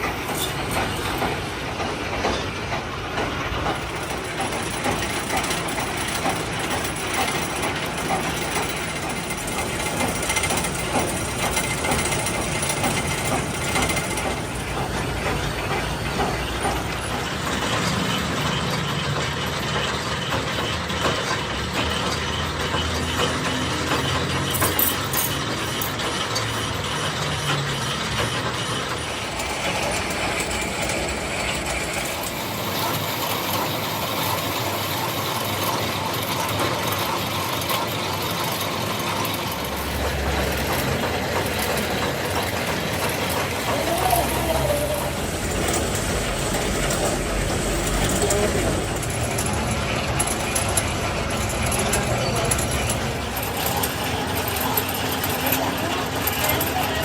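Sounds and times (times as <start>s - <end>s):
machine tool clattering: 0.0s - 57.0s.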